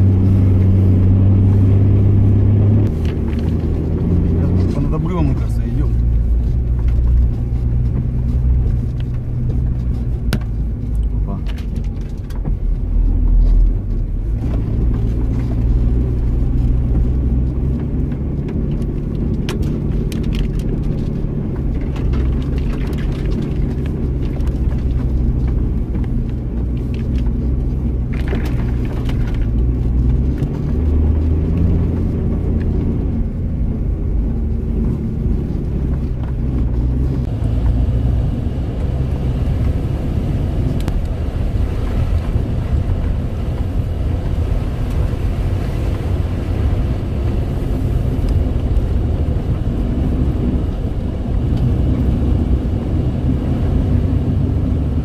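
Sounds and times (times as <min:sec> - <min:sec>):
vehicle engine droning inside cabin: 0:00.0 - 0:55.0.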